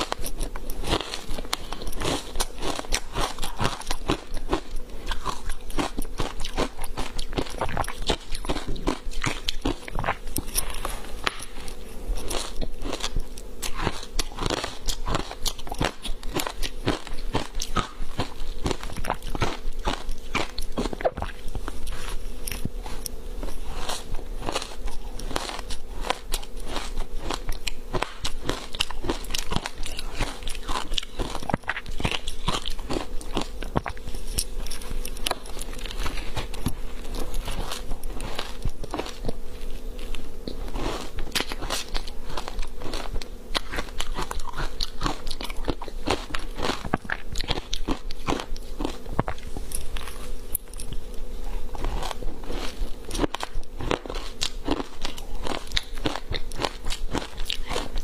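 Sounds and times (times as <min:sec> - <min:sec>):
ice being chewed crunching: 0:00.0 - 0:58.0.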